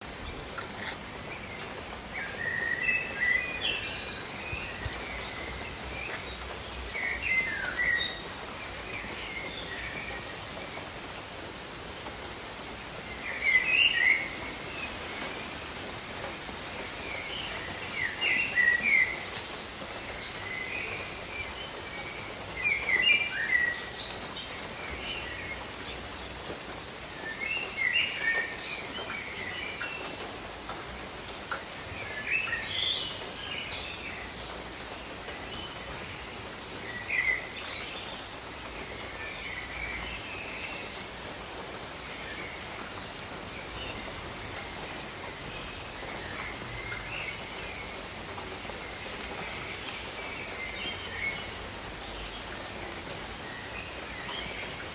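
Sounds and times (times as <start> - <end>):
gentle steady rain: 0.0 - 54.9.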